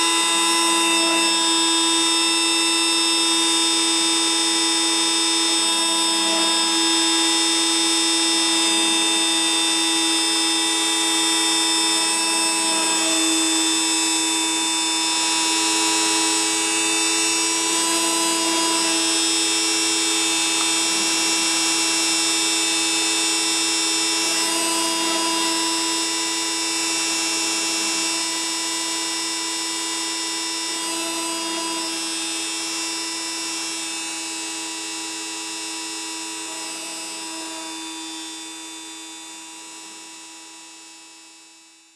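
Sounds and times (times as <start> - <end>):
cnc machine motors whining: 0.0 - 41.7.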